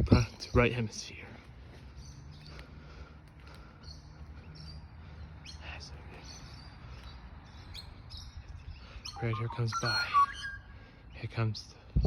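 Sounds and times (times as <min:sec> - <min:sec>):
birds chirping faintly: 0:00.0 - 0:11.9
road traffic rumble: 0:00.0 - 0:12.0.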